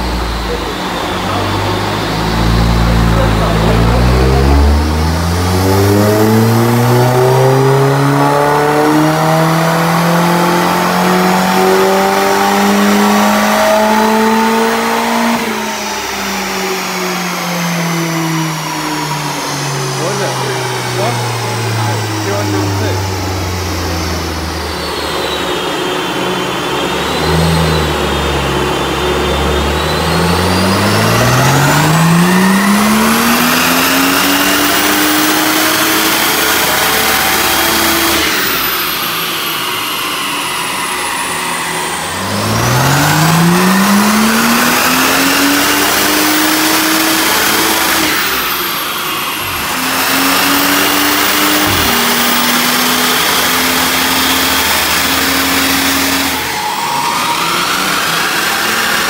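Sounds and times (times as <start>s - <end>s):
car engine revving on dyno: 0.0s - 59.0s
whine rising and falling: 0.0s - 59.0s.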